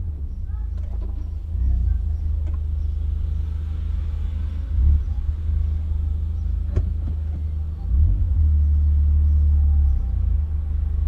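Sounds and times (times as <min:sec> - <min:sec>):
car cab rumble while driving: 0:00.0 - 0:11.0.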